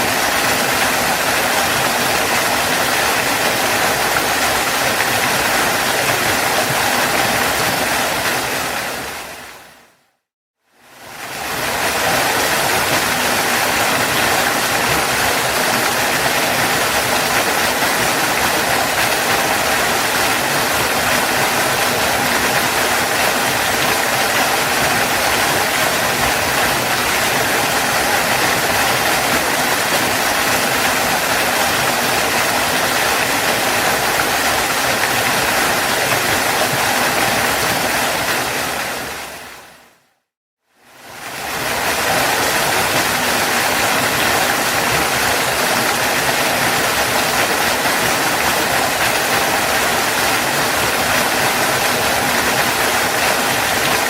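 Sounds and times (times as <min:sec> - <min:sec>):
waterfall rushing: 0:00.0 - 0:09.9, 0:10.9 - 0:40.0, 0:40.9 - 0:54.0.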